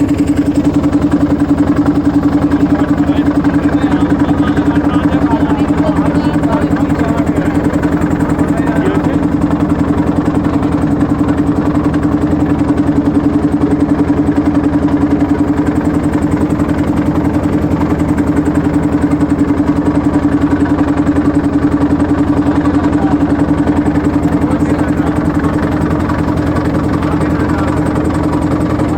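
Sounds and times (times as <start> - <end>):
motor boat engine running: 0.0 - 28.9.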